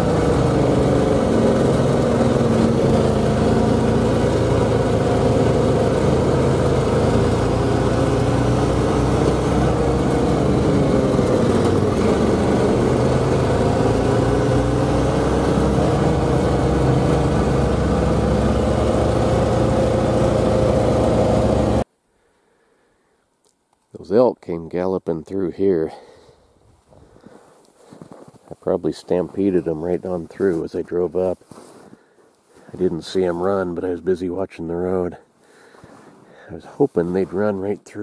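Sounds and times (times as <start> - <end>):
vehicle engine and road noise: 0.0 - 21.9, 26.8 - 38.0.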